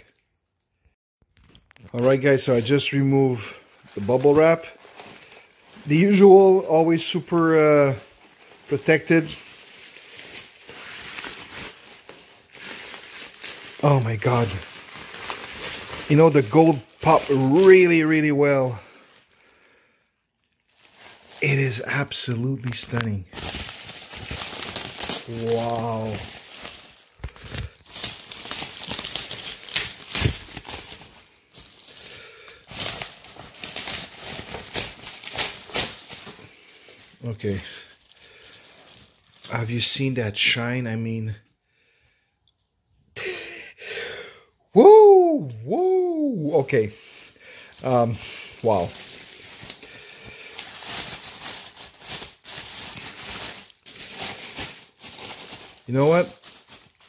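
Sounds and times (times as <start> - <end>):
plastic packaging crinkling: 1.3 - 40.2, 46.5 - 57.0.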